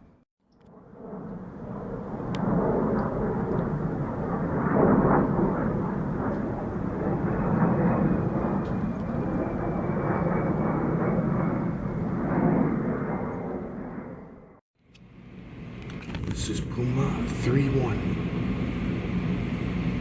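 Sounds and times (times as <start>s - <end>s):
military aircraft flying past: 0.1s - 20.0s.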